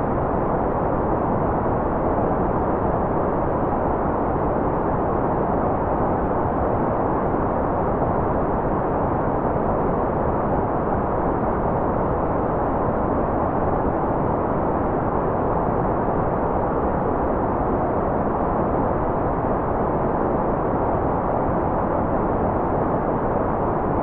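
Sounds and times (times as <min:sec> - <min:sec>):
muffled white noise hiss: 0:00.0 - 0:24.0.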